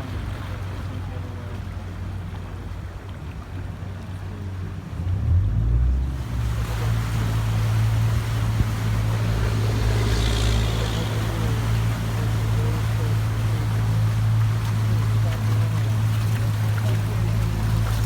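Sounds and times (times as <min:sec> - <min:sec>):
boat motor humming: 0:00.0 - 0:18.0
wind and water rushing: 0:00.0 - 0:18.0.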